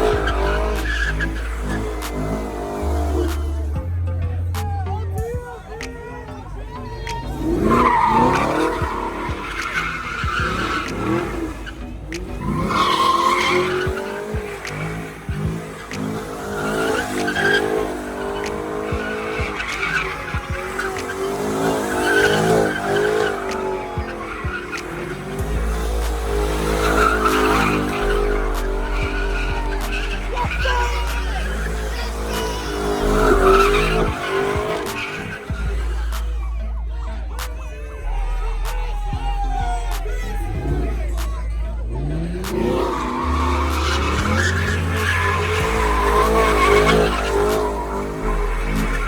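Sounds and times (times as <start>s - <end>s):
car engine revving: 0.0s - 49.0s
tyres squealing: 0.0s - 49.0s.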